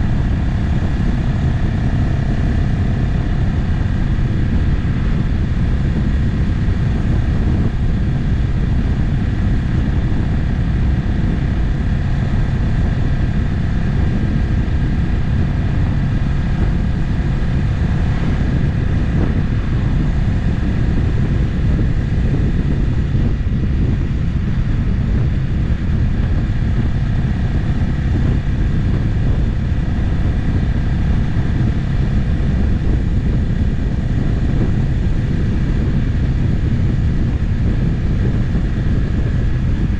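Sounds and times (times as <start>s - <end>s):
motorcycle engine drone: 0.0s - 39.9s
road rumble: 0.0s - 39.9s
wind: 0.0s - 39.9s.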